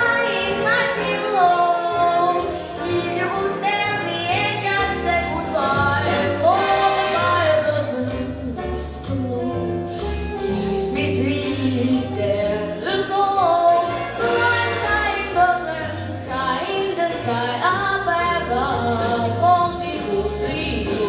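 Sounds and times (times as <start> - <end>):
instrumental accompaniment with bass: 0.0 - 21.0
woman singing: 0.0 - 21.0.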